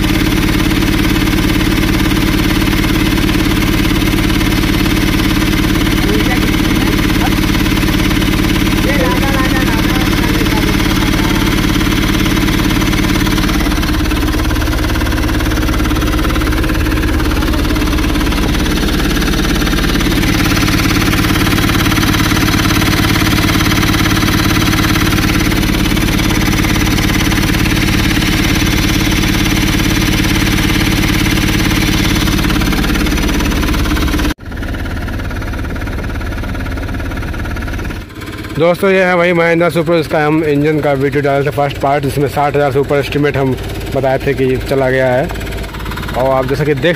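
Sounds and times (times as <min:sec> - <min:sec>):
diesel engine running steadily: 0:00.0 - 0:46.9.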